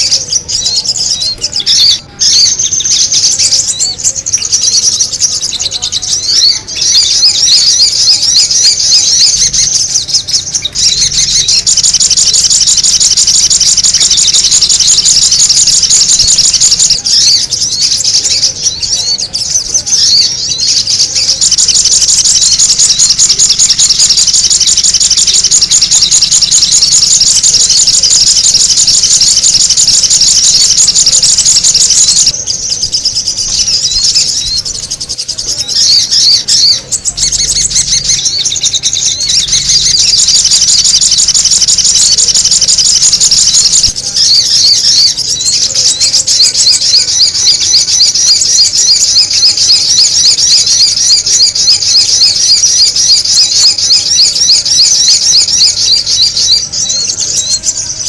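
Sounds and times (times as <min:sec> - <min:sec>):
high-pitched bird lure chattering: 0:00.0 - 0:58.0.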